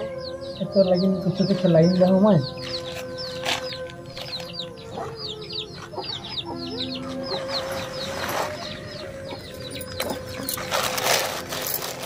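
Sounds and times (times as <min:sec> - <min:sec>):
chicks peeping: 0:00.0 - 0:11.2.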